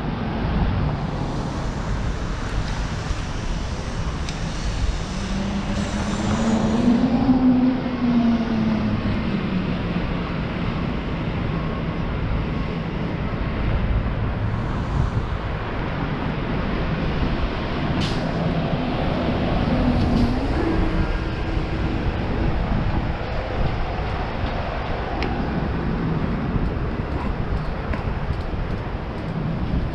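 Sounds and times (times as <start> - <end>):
rumble of passing vehicles: 0.0 - 29.9.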